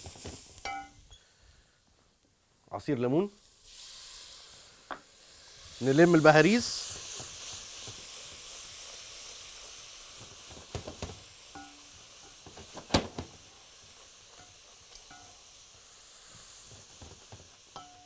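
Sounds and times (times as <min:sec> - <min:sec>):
vegetables sizzling in a pot: 0:00.0 - 0:01.8, 0:02.7 - 0:18.0.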